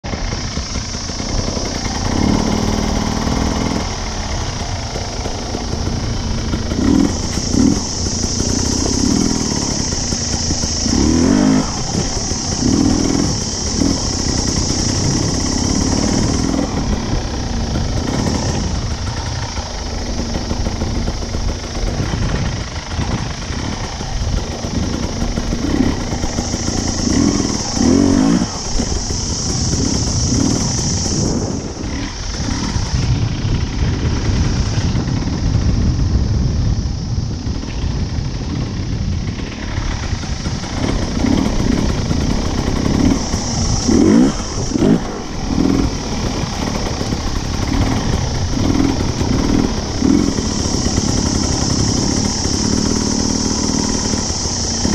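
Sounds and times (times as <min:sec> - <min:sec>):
dirt bike engine revving: 0:00.0 - 0:36.8, 0:37.4 - 0:54.9.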